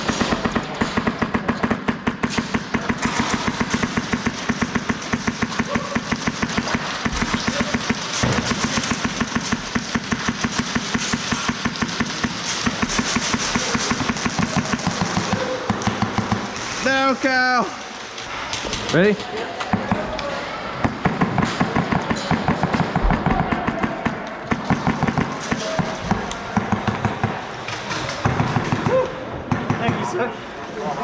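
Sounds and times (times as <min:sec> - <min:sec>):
airsoft rifles firing bursts: 0:00.0 - 0:17.4, 0:20.7 - 0:28.9.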